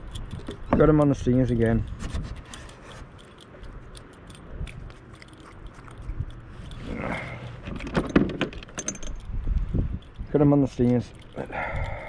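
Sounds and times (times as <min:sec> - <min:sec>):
small clicks of hooks: 0:00.0 - 0:12.0.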